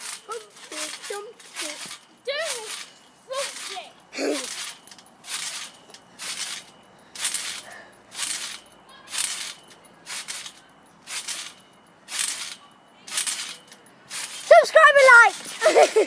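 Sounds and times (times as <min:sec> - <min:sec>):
trampoline springs rasping: 0:00.0 - 0:16.0.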